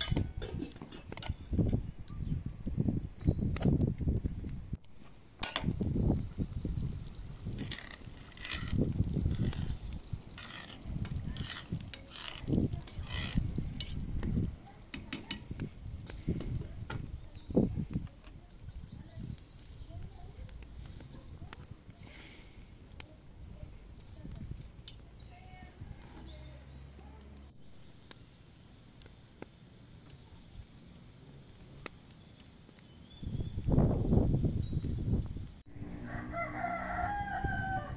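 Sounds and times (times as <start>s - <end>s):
wood embers crackling: 0.0s - 37.9s.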